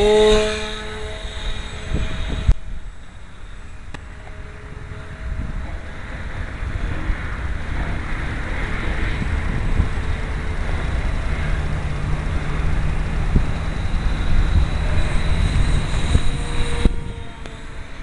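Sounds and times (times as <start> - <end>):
distant model plane motor drone: 0.0 - 18.0
wind buffeting microphone: 0.0 - 18.0.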